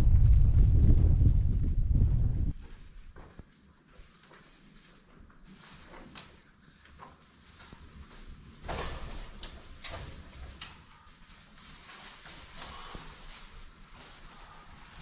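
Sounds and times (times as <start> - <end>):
soft rustling: 1.6 - 15.0.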